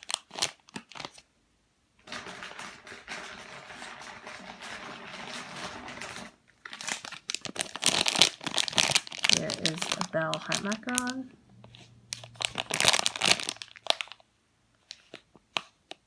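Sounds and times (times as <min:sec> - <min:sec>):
plastic packaging crinkling: 0:00.0 - 0:01.2, 0:02.0 - 0:16.0.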